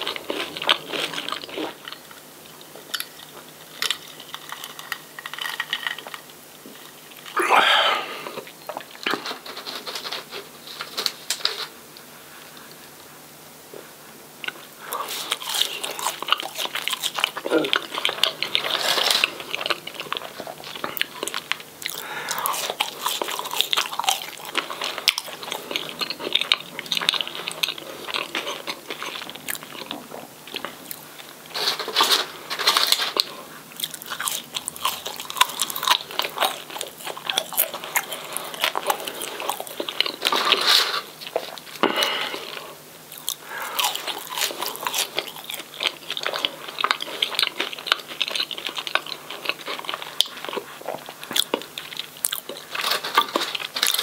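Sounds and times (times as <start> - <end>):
wet chewing: 0.0 - 10.2, 14.4 - 54.0
crunchy food crunching: 0.0 - 11.7, 14.4 - 54.0.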